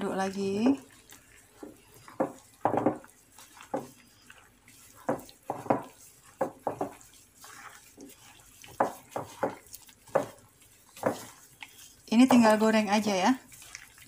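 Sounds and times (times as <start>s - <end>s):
hand squishing wet squid in flour: 0.0s - 14.0s.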